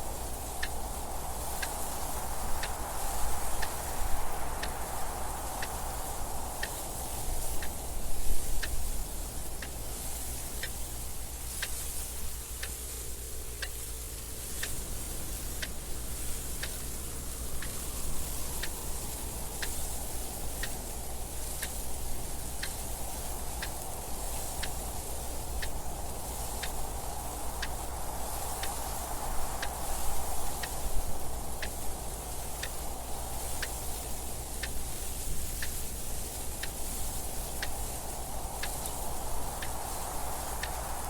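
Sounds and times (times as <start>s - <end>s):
gusting wind: 0.0s - 41.0s
clock ticking: 6.5s - 41.0s.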